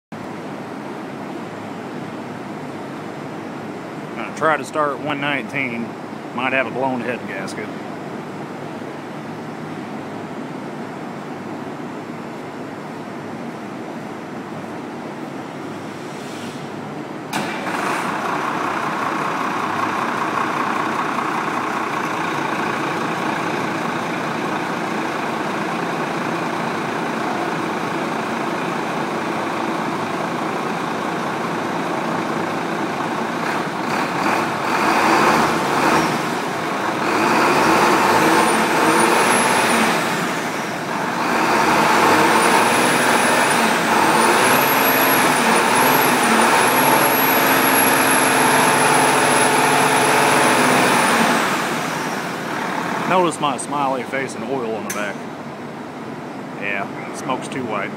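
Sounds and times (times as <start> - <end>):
diesel bus engine running: 0.2 - 57.9.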